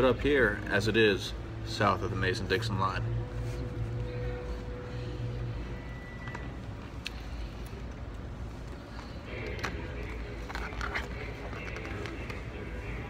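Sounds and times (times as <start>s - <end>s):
faint voices: 0.0s - 13.0s
steady low hum: 0.0s - 13.0s.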